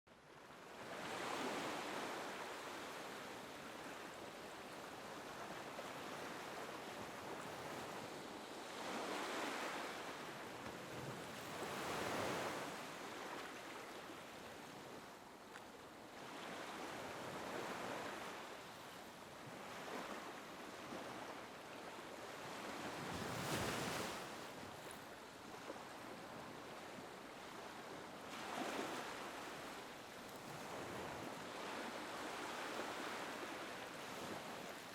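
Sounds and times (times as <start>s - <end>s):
small waves lapping on beach: 0.2s - 34.9s.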